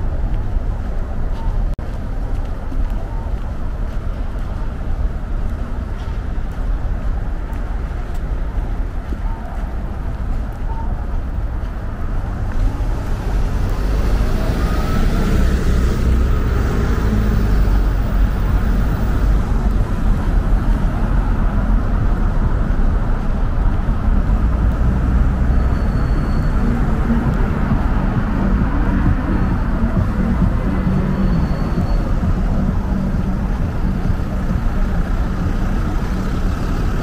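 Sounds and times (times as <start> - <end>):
bus and cars driving past: 0.0 - 37.0.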